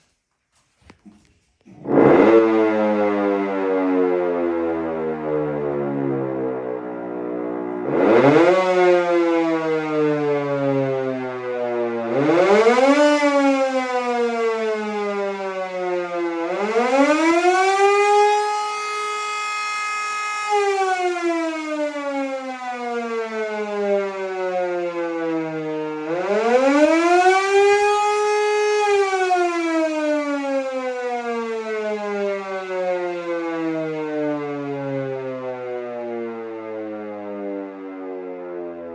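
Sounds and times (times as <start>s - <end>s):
air raid siren wailing: 0.6s - 38.9s.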